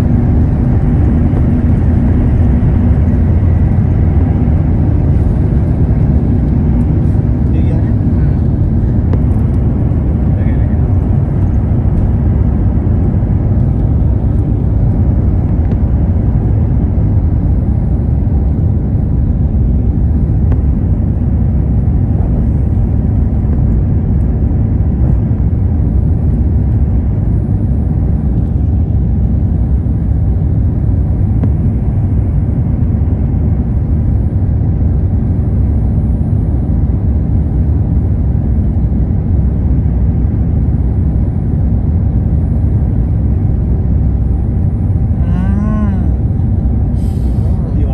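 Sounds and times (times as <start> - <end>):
jet engine cabin rumble: 0.0 - 47.9.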